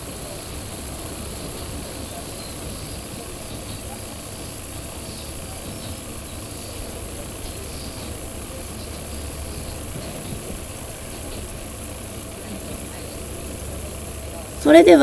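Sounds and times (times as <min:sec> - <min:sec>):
railcar engine drone: 0:00.0 - 0:15.0
wheels rumbling on track: 0:00.0 - 0:15.0.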